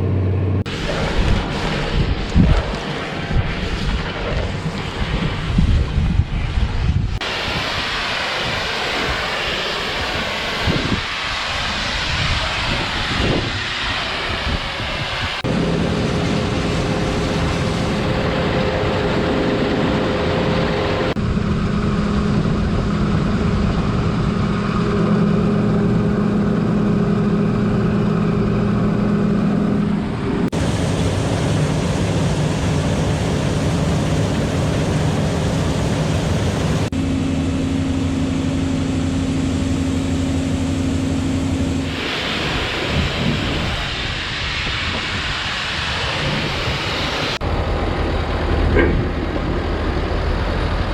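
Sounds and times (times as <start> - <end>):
combine harvester engine drone: 0.0 - 50.9
wind-like rush: 0.0 - 50.9.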